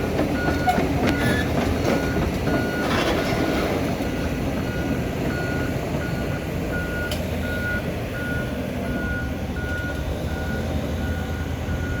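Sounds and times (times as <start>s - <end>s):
diesel engine rumble: 0.0s - 12.0s
excavator alarm beeping: 0.3s - 12.0s.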